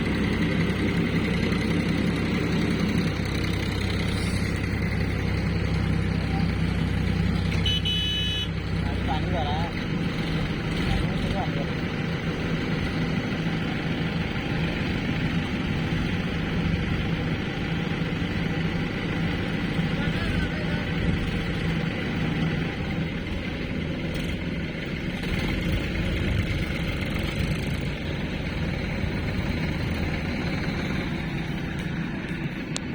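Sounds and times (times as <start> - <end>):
heavy diesel engine running: 0.0 - 32.9.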